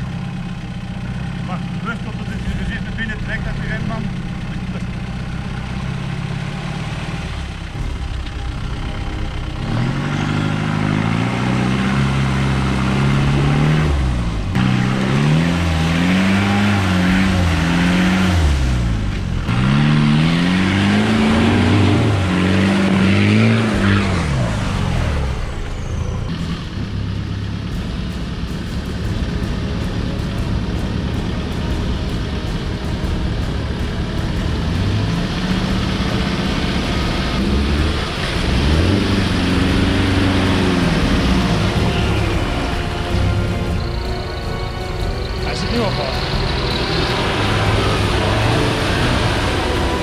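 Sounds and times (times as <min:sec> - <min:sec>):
off-road vehicle engine revving: 0:00.0 - 0:50.0
tyres churning through mud and water: 0:01.4 - 0:50.0.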